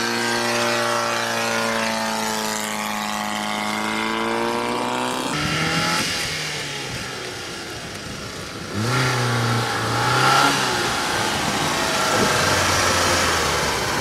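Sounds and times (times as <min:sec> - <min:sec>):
small car engine revving: 0:00.0 - 0:14.0.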